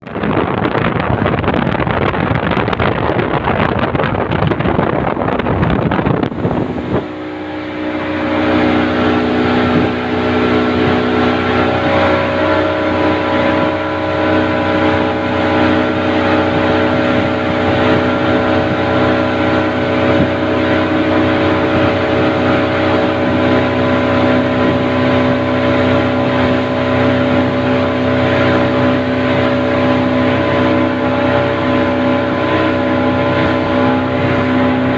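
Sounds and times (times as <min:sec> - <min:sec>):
outboard engine running: 0:00.0 - 0:34.9
rushing wind and water: 0:00.0 - 0:34.9.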